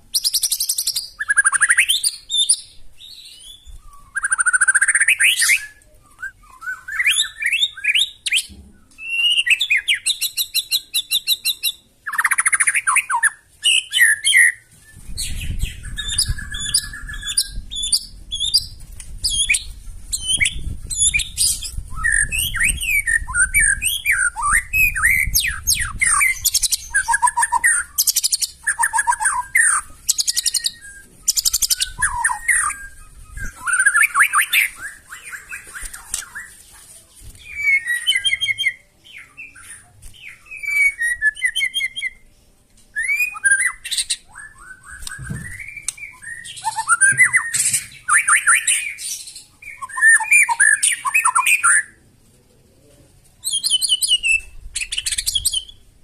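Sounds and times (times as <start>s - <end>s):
bird singing varied song: 0.0s - 52.0s, 53.4s - 55.9s.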